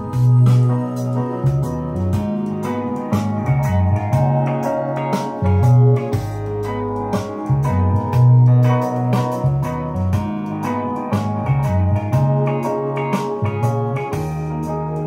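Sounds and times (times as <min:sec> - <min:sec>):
instrumental music through a speaker: 0:00.0 - 0:15.0.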